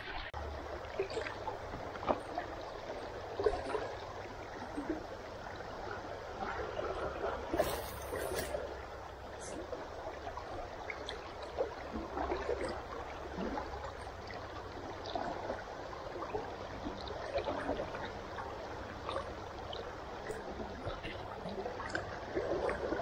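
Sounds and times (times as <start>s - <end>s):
river water gurgling over riffle: 0.0s - 23.0s.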